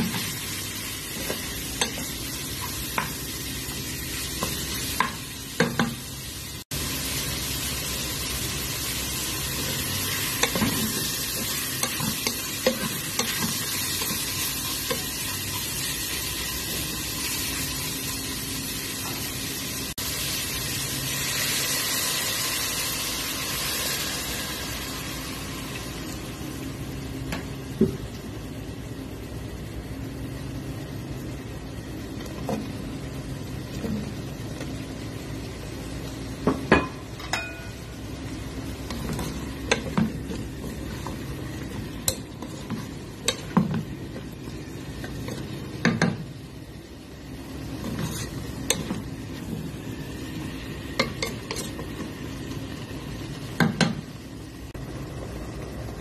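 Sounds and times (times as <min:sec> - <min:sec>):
chicken sizzling in a pot: 0:00.0 - 0:56.0.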